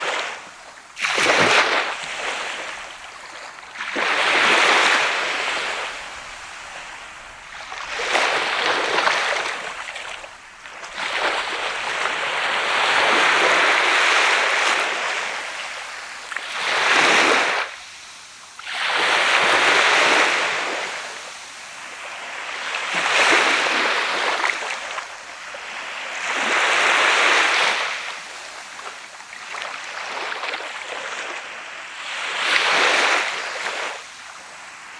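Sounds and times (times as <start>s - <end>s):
sea waves breaking on shore: 0.0s - 34.9s.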